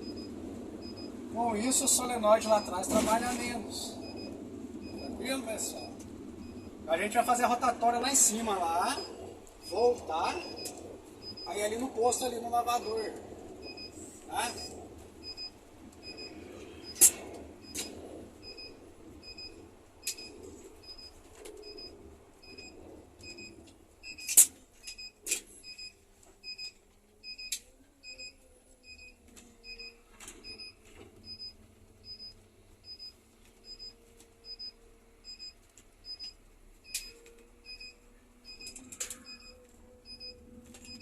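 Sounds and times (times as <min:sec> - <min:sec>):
faint engine hum: 0:00.0 - 0:41.0
short high warning beeps: 0:01.7 - 0:13.0, 0:13.6 - 0:41.0.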